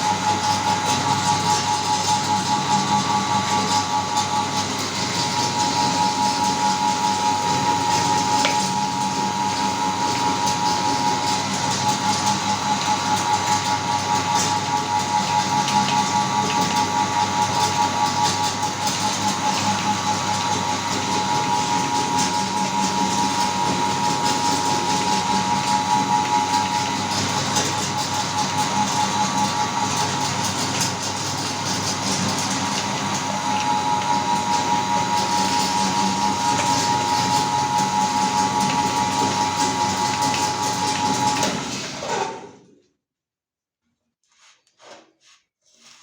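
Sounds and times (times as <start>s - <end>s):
meat grinder whining: 0.0s - 42.6s.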